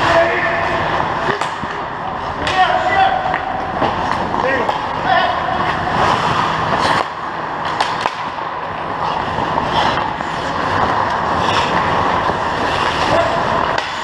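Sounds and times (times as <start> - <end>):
skates scraping on ice: 0.0 - 14.0
hockey stick clacks: 0.9 - 1.8, 2.4 - 14.0.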